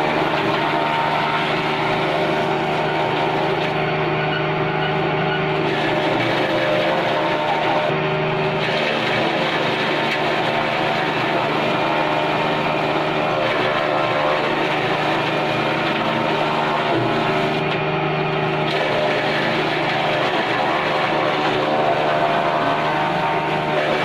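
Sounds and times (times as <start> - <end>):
chaff cutter chopping stalks: 0.0 - 3.8, 5.6 - 17.8, 18.4 - 24.0.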